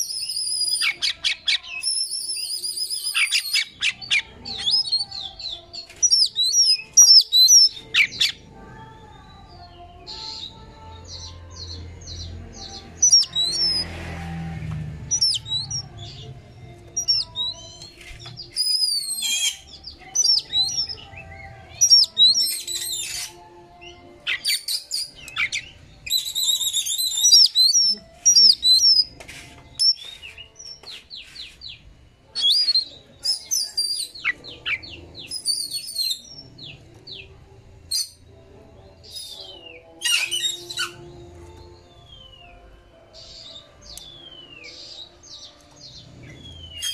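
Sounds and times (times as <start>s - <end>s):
bird singing whistled notes: 0.0s - 8.4s, 9.2s - 14.0s, 15.1s - 16.3s, 16.9s - 29.1s, 29.8s - 37.3s, 37.9s - 38.3s, 39.0s - 46.9s.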